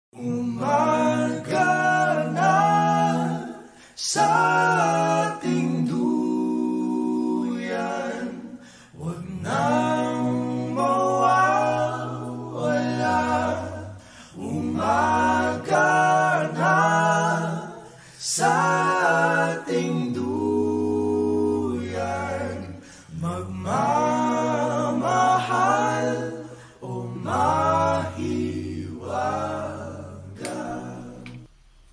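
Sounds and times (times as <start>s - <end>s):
a cappella group singing: 0.1s - 31.9s.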